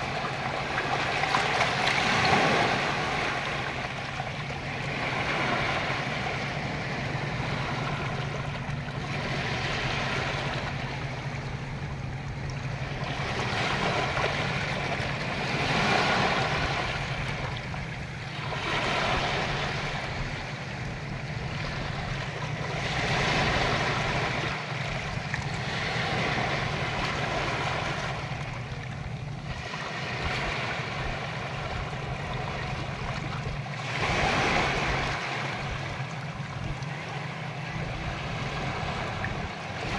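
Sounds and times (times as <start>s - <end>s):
ocean waves washing in: 0.0s - 39.9s
steady low hum: 0.0s - 39.9s.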